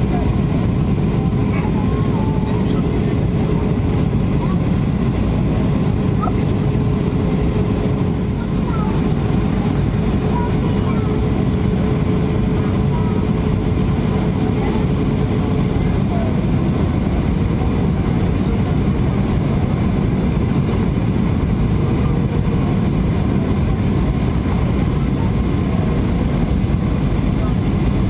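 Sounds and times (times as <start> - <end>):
airplane cabin low roar: 0.0 - 28.0.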